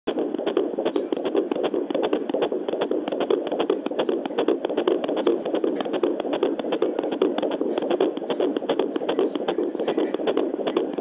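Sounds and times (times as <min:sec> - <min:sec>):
fetal heartbeat pulses: 0:00.1 - 0:11.0.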